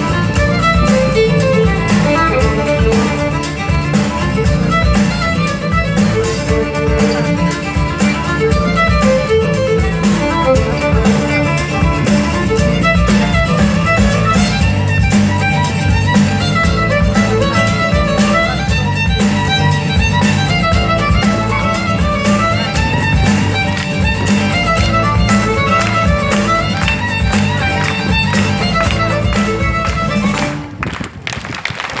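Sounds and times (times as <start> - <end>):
steady beat: 0.0 - 30.8
violin lead: 0.0 - 30.9.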